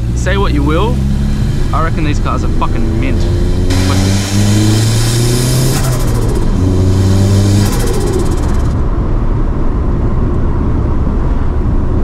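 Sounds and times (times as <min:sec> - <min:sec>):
turbocharged car engine: 0:00.0 - 0:12.0.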